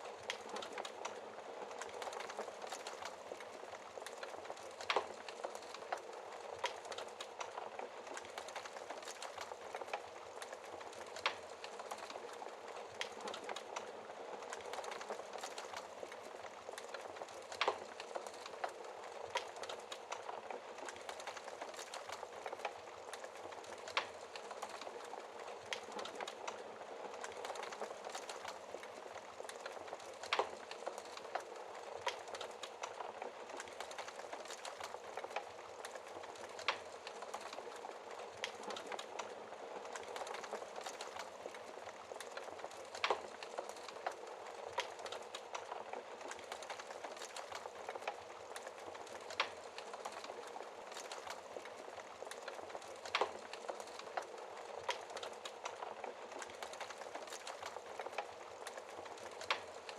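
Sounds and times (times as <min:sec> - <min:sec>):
fireplace fire crackling: 0:00.0 - 0:59.9.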